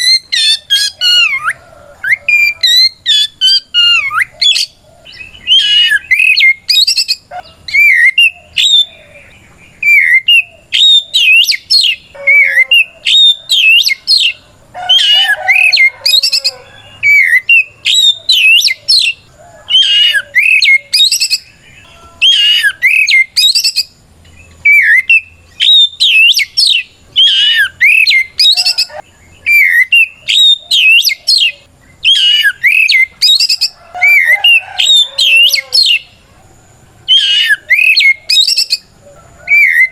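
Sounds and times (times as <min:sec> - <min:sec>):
magpie-robin singing whistles: 0:00.0 - 0:09.0, 0:09.8 - 0:21.6, 0:22.2 - 0:36.0, 0:37.1 - 0:38.9, 0:39.5 - 0:39.9.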